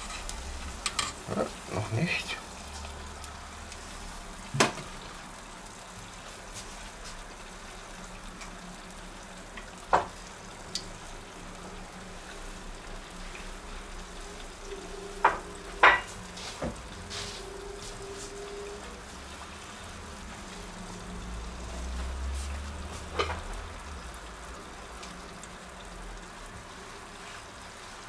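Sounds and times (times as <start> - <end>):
food deep-frying in hot oil: 0.0 - 28.0.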